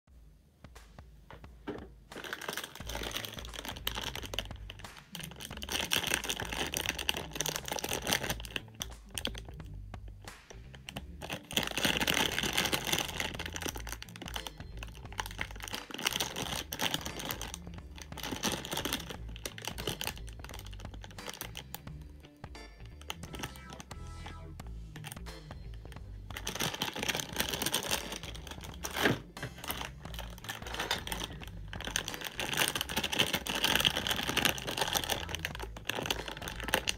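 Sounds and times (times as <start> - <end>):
plastic bag crinkling: 1.7 - 9.5, 10.8 - 21.8, 25.9 - 36.9.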